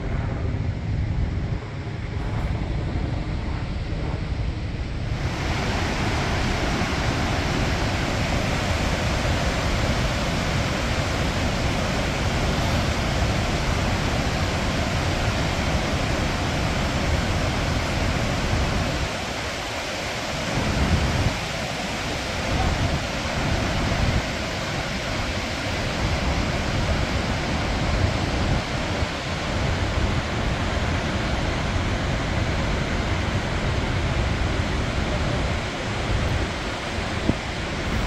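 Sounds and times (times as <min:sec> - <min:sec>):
wind rumbling on microphone: 0:00.0 - 0:38.0
waterfall roaring: 0:05.0 - 0:38.0
river rapids rushing: 0:05.2 - 0:38.0.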